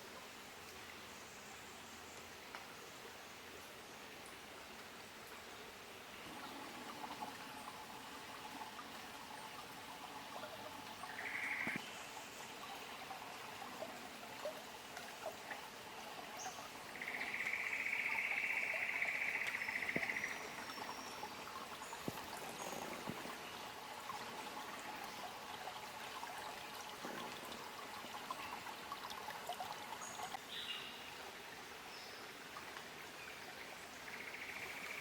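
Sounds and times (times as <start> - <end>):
creek trickling over stones: 0.0 - 35.0.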